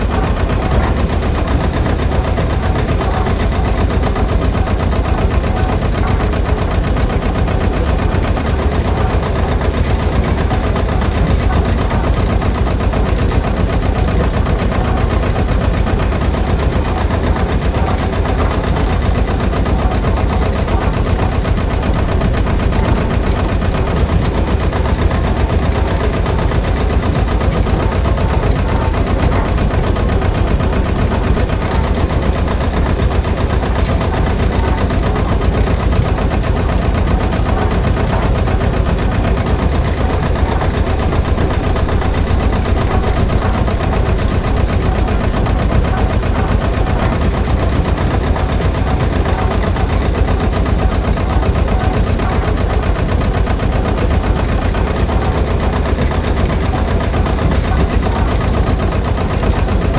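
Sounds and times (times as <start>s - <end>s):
small engine idling: 0.0s - 59.9s.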